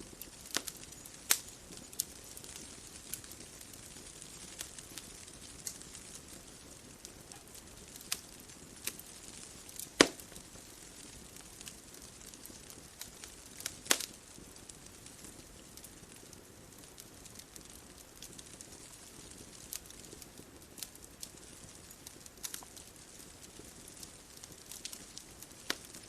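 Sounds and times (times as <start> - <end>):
bonfire crackling: 0.0 - 26.0
loud fire pops: 0.0 - 26.0.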